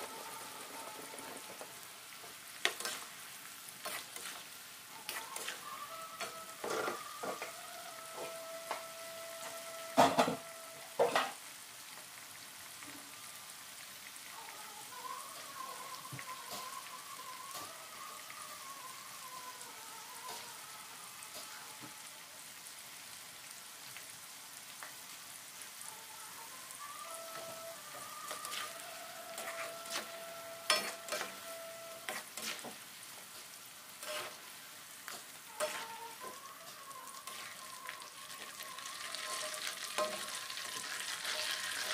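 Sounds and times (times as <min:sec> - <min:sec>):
deep-frying sizzle in oil: 0:00.0 - 0:41.9.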